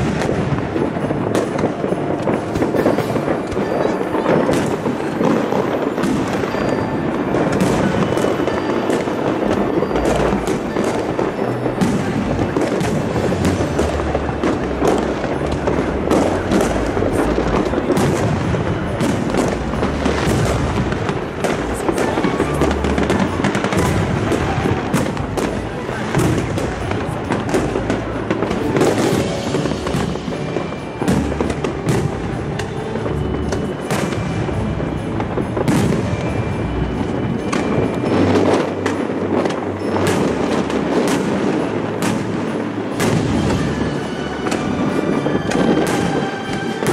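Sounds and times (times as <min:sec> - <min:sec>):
background music: 0:00.0 - 0:46.9
fireworks bangs and crackles: 0:00.0 - 0:46.9.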